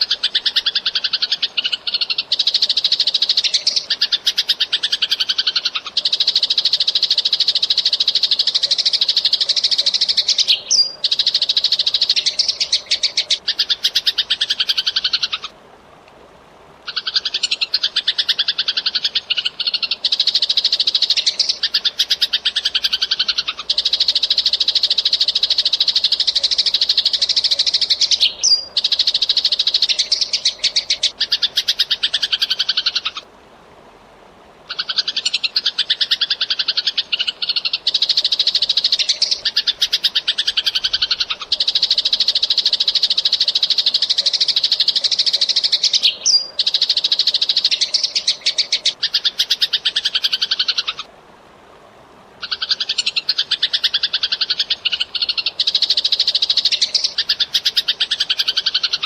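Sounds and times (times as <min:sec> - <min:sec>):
sparrow chattering: 0:00.0 - 0:15.5, 0:16.9 - 0:33.2, 0:34.7 - 0:51.1, 0:52.4 - 0:59.0.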